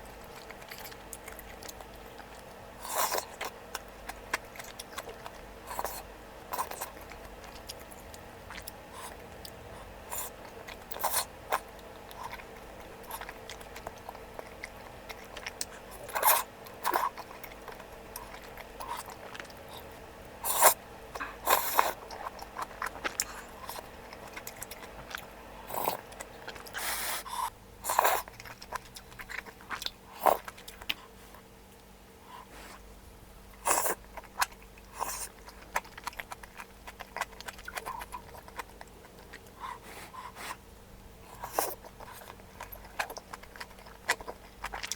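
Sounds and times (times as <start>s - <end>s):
person chewing and crunching: 0.0s - 31.4s, 33.6s - 40.6s, 41.2s - 44.9s.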